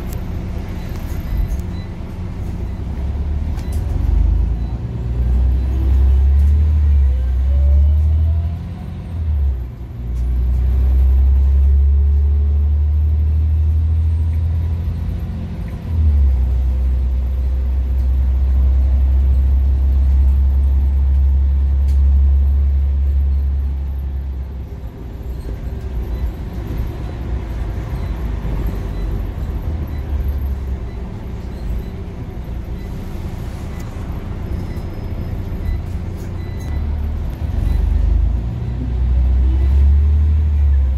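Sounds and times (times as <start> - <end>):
bus engine drone: 0.0 - 40.9.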